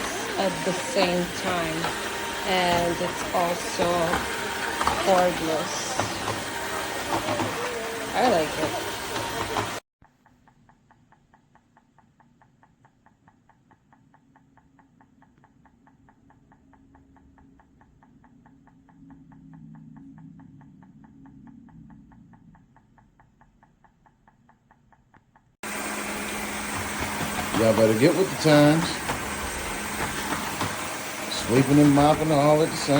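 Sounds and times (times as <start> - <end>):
fast regular ticking: 0.0 - 32.9.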